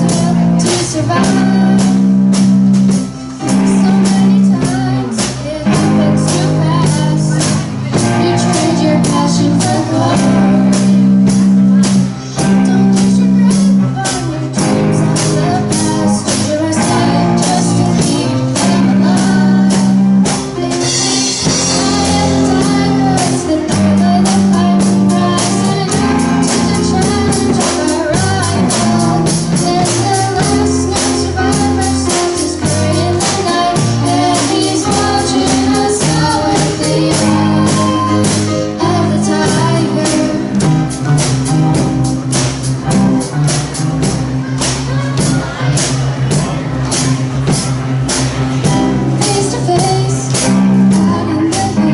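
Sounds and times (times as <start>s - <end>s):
person singing: 0.0s - 41.9s, 48.6s - 51.9s
drum kit beating: 0.0s - 51.9s
rock band playing: 0.0s - 51.9s.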